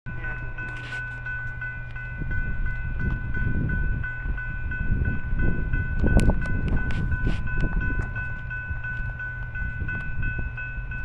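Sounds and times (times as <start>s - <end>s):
crossing warning bell ringing: 0.1s - 11.0s.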